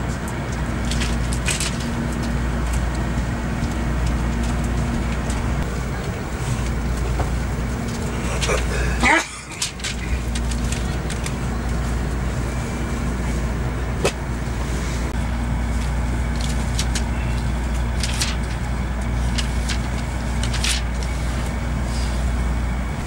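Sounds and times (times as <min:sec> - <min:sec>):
train car rumble and hum: 0:00.0 - 0:23.0.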